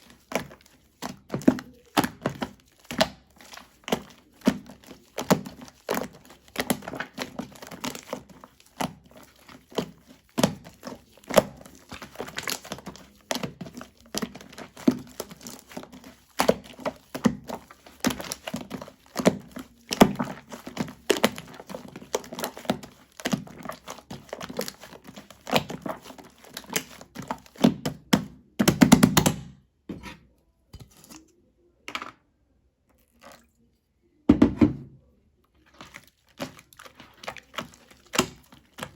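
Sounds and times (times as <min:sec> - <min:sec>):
shaving foam squished by hand: 0:00.0 - 0:29.1, 0:35.7 - 0:38.9.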